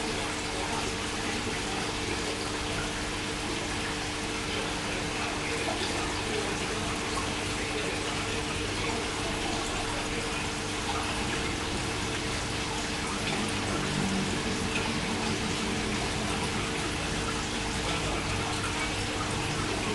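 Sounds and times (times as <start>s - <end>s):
water rushing: 0.0s - 19.9s.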